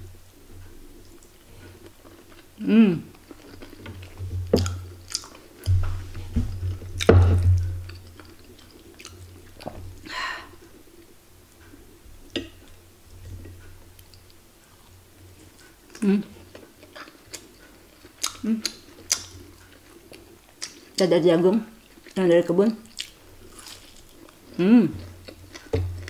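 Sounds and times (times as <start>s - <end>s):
person chewing: 0.7s - 11.1s, 11.7s - 21.0s, 21.7s - 22.2s, 22.8s - 26.0s.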